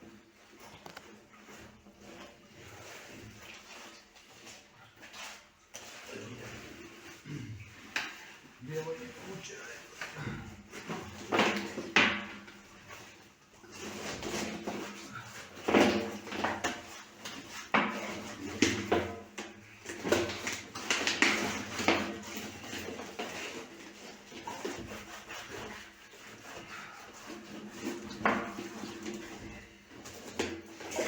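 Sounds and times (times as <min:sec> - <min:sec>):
hand tools scraping concrete: 0:00.8 - 0:31.0.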